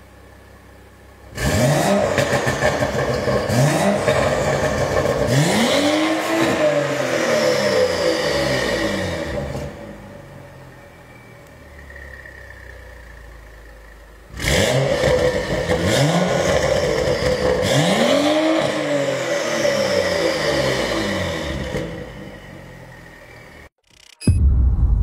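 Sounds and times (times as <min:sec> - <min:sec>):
car engine idling and revving: 0:00.0 - 0:24.5.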